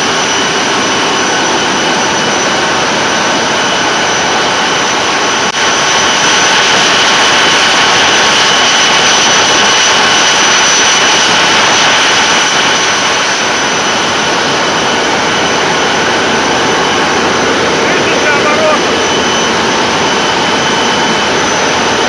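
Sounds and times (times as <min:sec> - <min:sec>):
diesel locomotive engine: 0:00.0 - 0:22.0.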